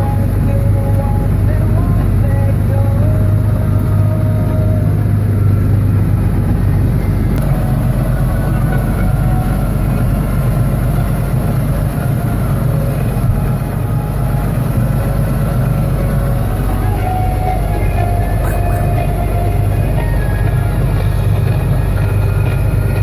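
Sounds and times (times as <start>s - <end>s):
farm machinery engine humming: 0.0s - 23.0s.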